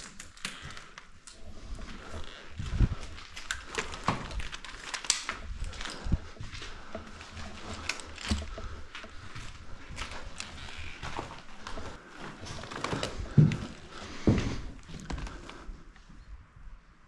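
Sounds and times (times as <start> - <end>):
footsteps crunching: 1.5 - 15.6.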